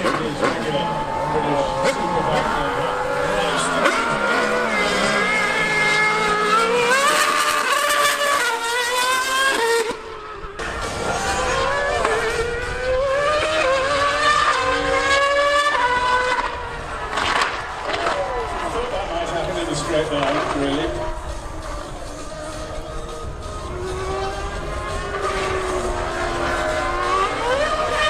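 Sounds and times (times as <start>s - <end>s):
racing engine accelerating: 0.0s - 28.0s.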